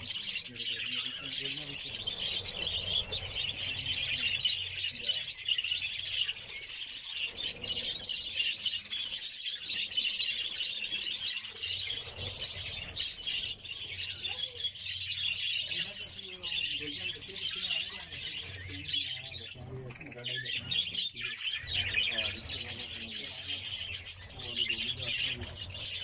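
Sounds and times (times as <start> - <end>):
budgerigars chattering and chirping: 0.0 - 26.0.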